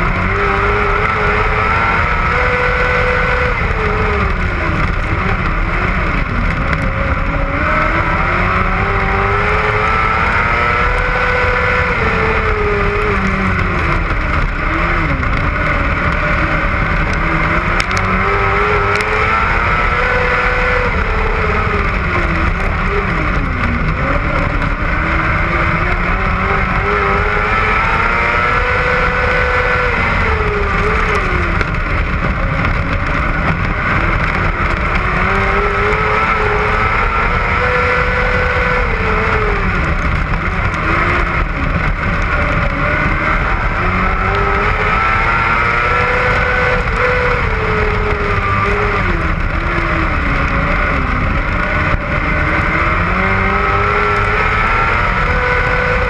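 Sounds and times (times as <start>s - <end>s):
race car engine: 0.0s - 56.0s
wind rumble: 0.0s - 56.0s.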